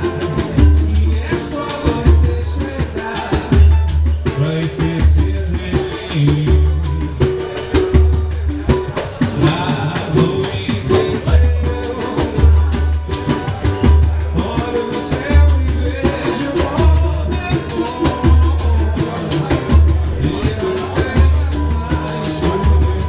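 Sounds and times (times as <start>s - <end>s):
person singing: 0.0s - 7.4s, 9.1s - 23.0s
hand drums fast rhythm: 0.0s - 23.0s
live band playing upbeat music: 0.0s - 23.0s.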